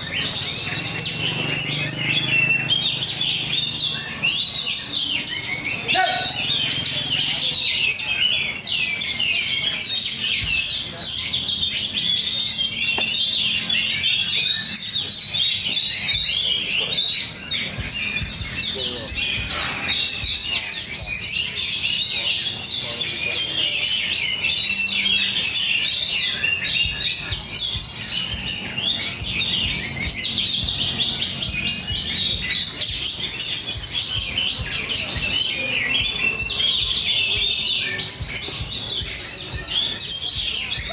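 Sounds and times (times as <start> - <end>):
murmur of voices: 0.0 - 40.9
songbirds chirping and trilling: 0.0 - 40.9.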